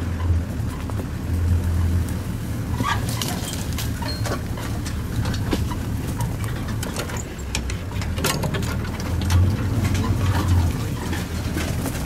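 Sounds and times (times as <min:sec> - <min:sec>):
scattered clicks and crackles: 0:00.0 - 0:12.0
vehicle engine idling: 0:00.0 - 0:12.0.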